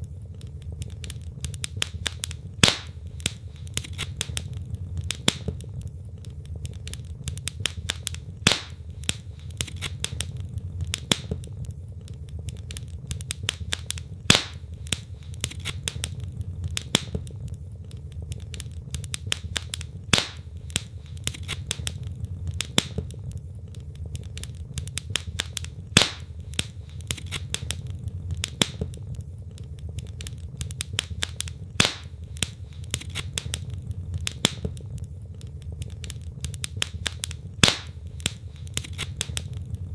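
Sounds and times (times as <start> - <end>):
fire rumbling: 0.0 - 39.9
logs crackling and popping: 0.0 - 39.9
sharp wood snaps: 0.4 - 39.8.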